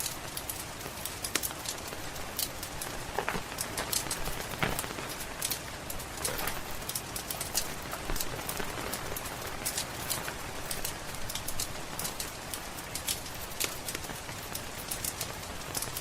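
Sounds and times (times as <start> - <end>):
log fire crackling: 0.0 - 16.0
steady rain falling: 0.0 - 16.0.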